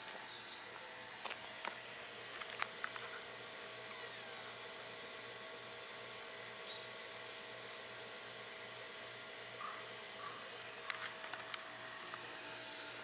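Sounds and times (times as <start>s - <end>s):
outdoor hush: 0.0s - 13.0s.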